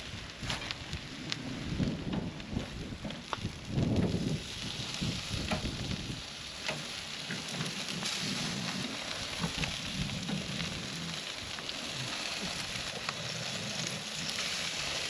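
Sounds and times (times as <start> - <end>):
food sizzling on grill: 0.0 - 15.0.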